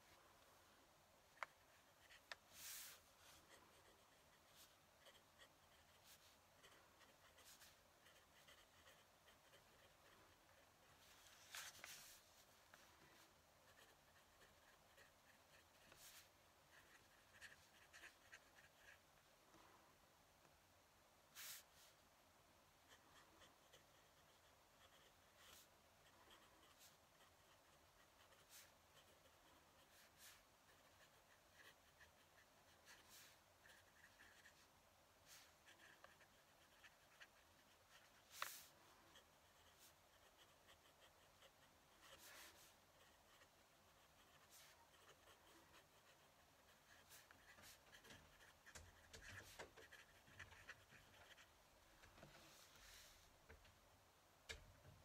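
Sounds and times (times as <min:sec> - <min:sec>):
pen nib scratching on paper: 0:01.4 - 0:19.0, 0:22.9 - 0:51.6.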